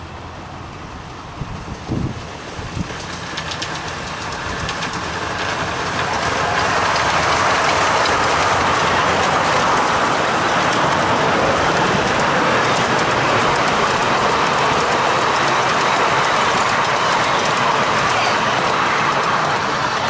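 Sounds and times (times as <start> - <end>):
miniature steam train passing: 0.0 - 20.0.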